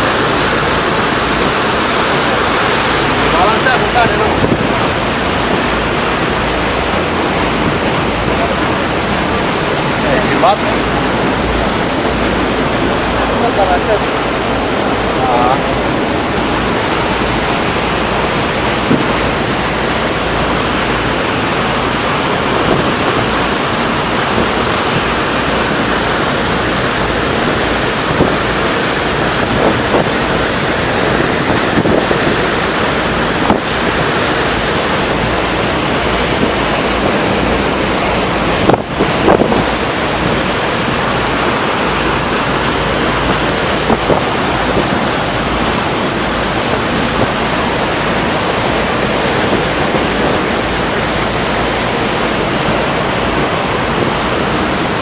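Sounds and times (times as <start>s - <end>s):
sea rushing: 0.0s - 55.0s
wind rushing: 0.0s - 55.0s.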